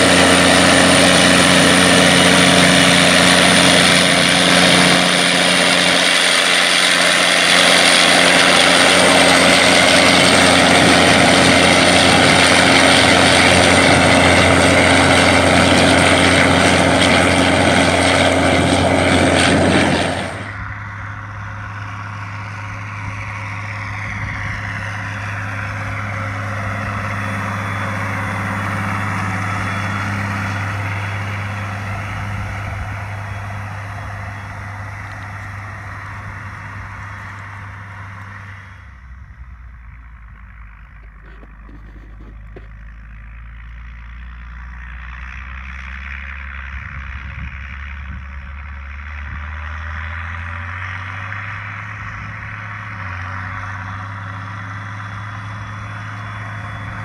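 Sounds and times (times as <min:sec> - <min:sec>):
tractor diesel engine running hard: 0:00.0 - 0:57.0
tractor engine hum: 0:00.0 - 0:57.0.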